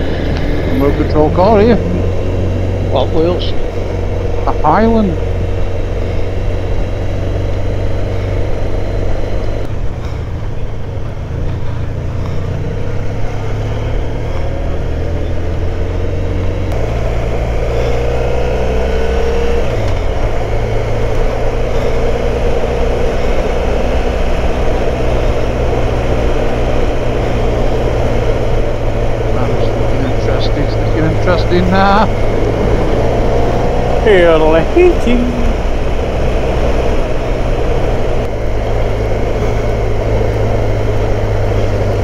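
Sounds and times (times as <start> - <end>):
motorcycle engine running: 0.0 - 42.0
wind and road noise: 0.0 - 42.0.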